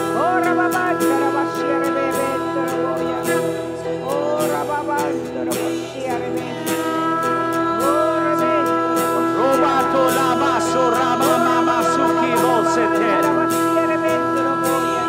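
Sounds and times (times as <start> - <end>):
acoustic guitar: 0.0 - 15.0
person singing: 0.0 - 15.0
sustained chords: 0.0 - 15.0.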